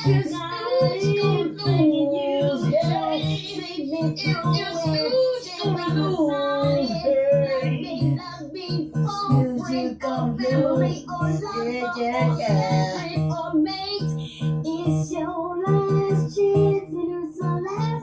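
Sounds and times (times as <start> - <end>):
high voice singing: 0.0 - 18.0.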